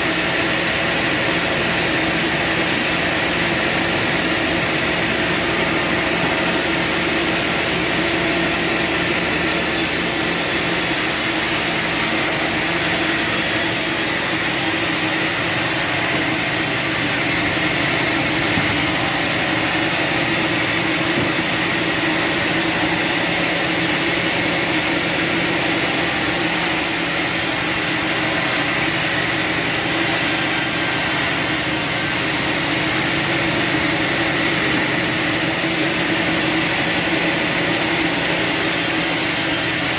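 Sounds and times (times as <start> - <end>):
high saw whine: 0.0 - 39.9
sawmill motor drone: 0.0 - 39.9.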